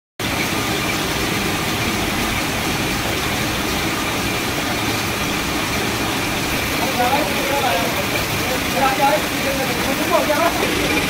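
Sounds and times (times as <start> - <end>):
knitting machines running: 0.2 - 11.0.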